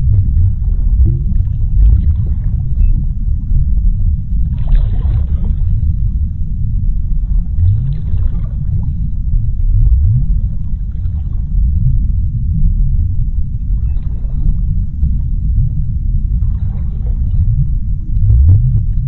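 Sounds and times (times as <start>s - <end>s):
bubbling underwater: 0.0s - 19.0s
deep underwater rumble: 0.0s - 19.0s.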